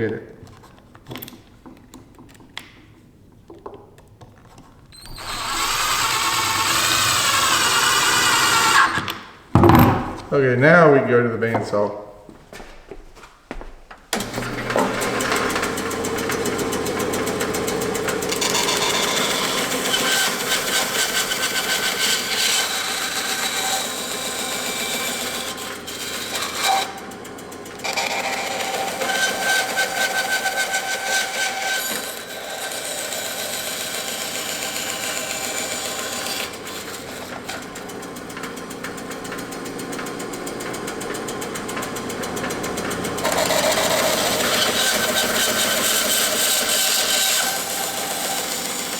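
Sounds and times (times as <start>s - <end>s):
bandsaw cutting plastic pipe: 4.3s - 10.3s, 14.1s - 48.9s.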